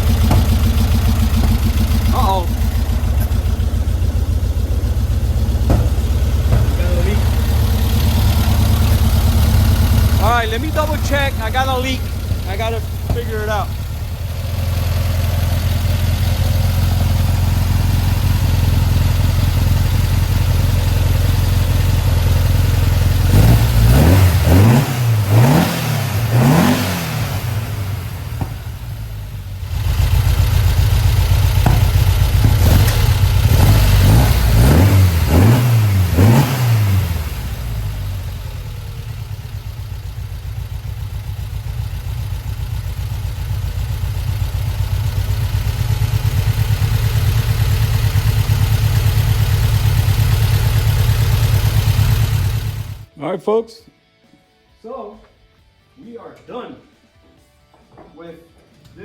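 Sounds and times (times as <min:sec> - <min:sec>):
car engine idling and revving: 0:00.0 - 0:53.1.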